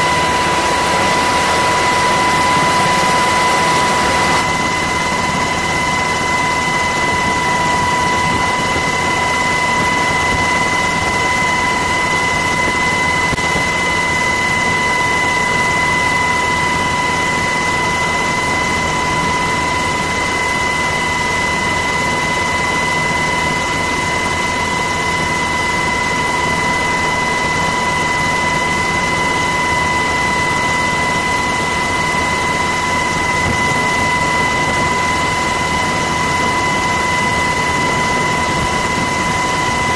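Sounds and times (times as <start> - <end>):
aircraft engine roar: 0.0 - 39.9.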